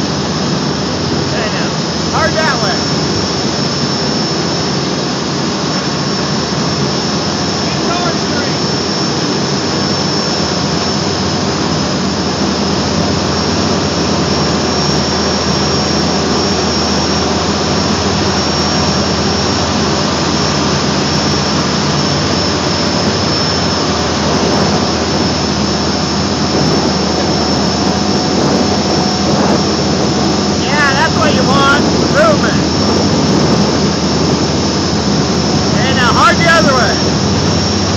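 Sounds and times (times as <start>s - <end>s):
boat engine running under load: 0.0s - 37.9s
propeller wash churning water: 0.0s - 37.9s
steady high whine: 0.0s - 37.9s.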